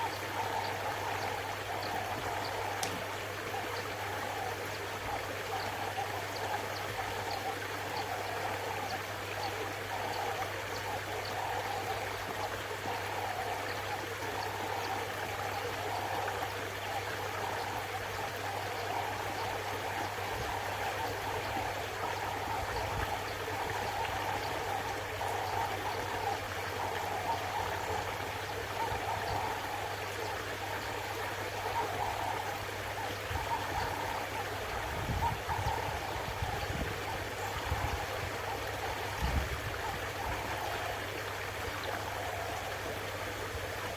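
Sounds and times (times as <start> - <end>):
pond water trickling: 0.0 - 43.9.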